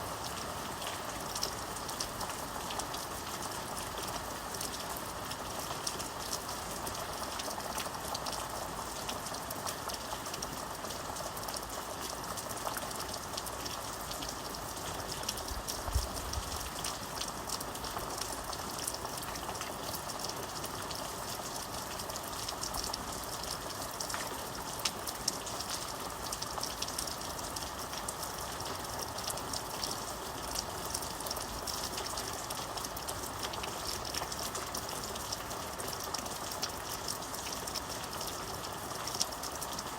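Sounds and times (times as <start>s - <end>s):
raindrops pattering: 0.1s - 39.9s.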